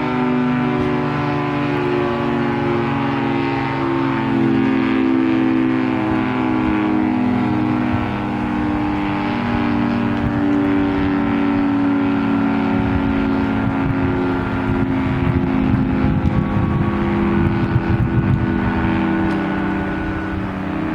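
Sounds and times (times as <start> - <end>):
outdoor warning siren chord: 0.0 - 20.9.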